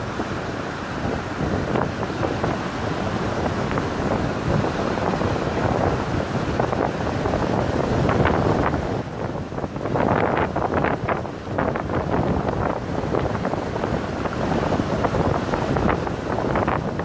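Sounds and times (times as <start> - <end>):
surf washing over pebbles: 0.0 - 17.0
wind buffeting microphone: 0.0 - 17.0.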